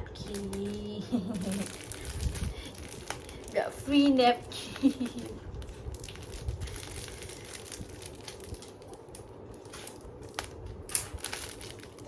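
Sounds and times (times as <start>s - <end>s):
packaging crinkling: 0.2s - 12.0s.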